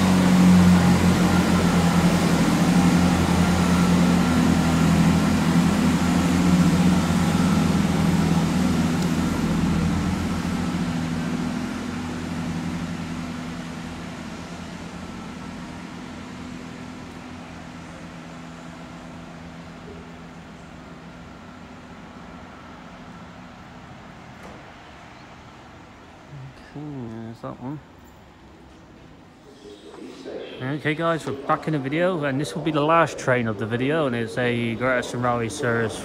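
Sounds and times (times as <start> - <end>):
diesel train engines drumming: 0.0 - 36.0.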